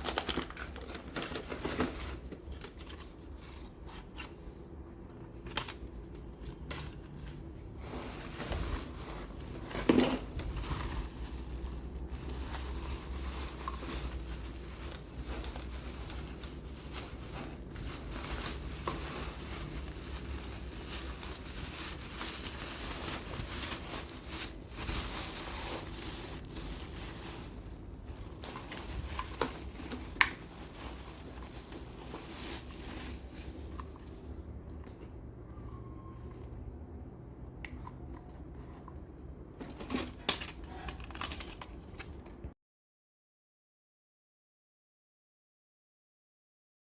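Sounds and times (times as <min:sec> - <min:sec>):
plastic and cardboard rustling: 0:00.0 - 0:42.6.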